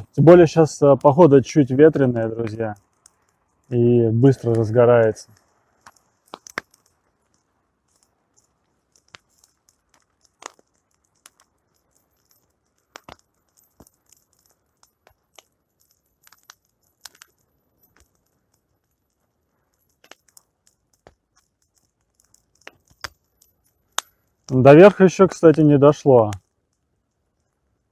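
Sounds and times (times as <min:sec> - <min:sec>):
bonfire crackling and popping: 0:00.0 - 0:27.9
faint fire hiss: 0:00.0 - 0:27.9.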